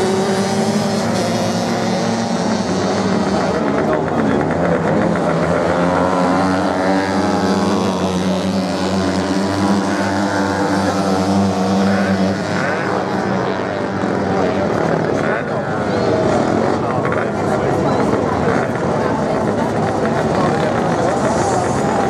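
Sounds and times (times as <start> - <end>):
motorcycle engine drone: 0.0 - 22.0
motorcycles revving: 0.0 - 22.0.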